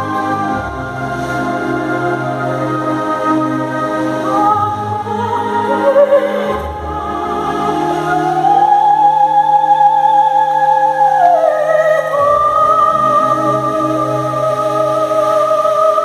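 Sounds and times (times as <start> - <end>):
opera singing: 0.0 - 16.0.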